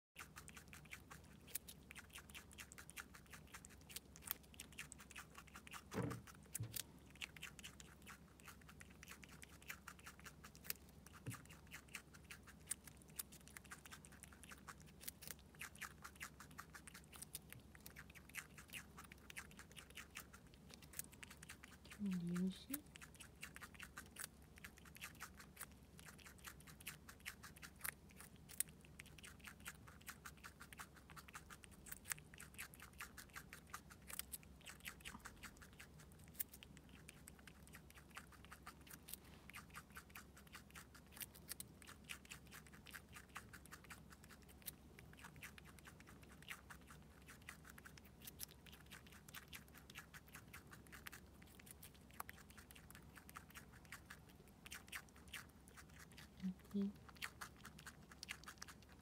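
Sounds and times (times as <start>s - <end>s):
squirrel crunching food: 0.2s - 59.0s.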